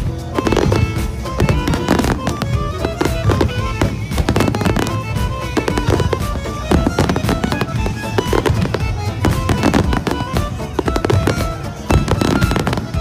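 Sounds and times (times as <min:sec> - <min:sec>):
fireworks bangs and crackling: 0:00.0 - 0:13.0
music with held tones: 0:00.0 - 0:13.0.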